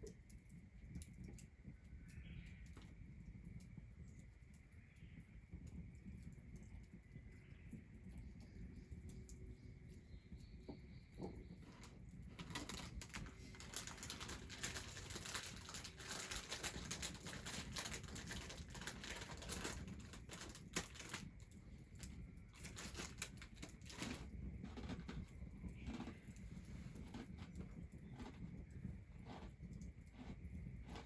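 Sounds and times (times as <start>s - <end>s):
quick irregular clicks and crackles: 0.0s - 10.5s, 11.1s - 31.0s.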